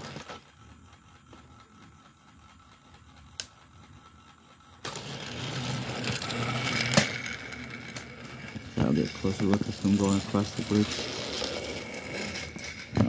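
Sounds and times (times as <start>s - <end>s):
toy track click: 0.0s - 13.0s
toy train motor whirring: 0.0s - 13.0s.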